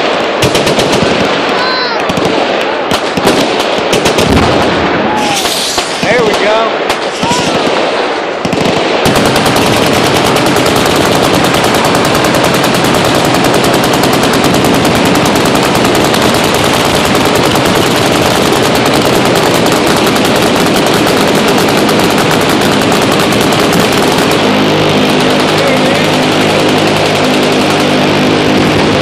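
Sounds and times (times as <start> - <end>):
machine guns firing full-auto: 0.0 - 29.0.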